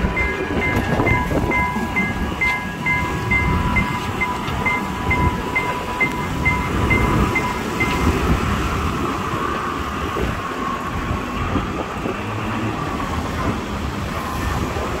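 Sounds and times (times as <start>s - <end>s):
traffic engines din: 0.0s - 15.0s.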